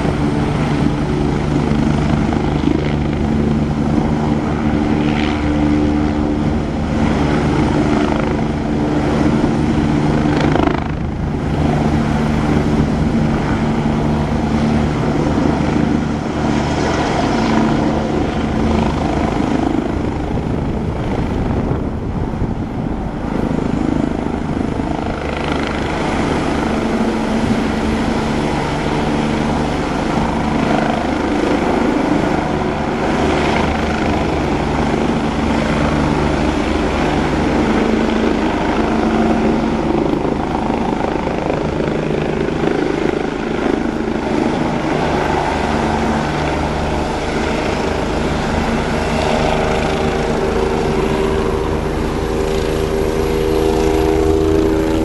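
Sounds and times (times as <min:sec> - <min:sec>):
helicopter rotor drone: 0:00.0 - 0:55.0
turbine whine: 0:00.0 - 0:55.0.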